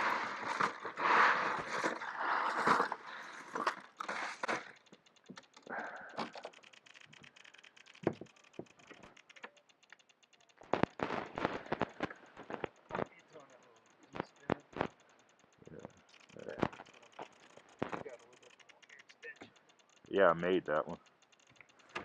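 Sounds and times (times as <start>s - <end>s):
crackling rustling handling noise: 0.0s - 20.0s.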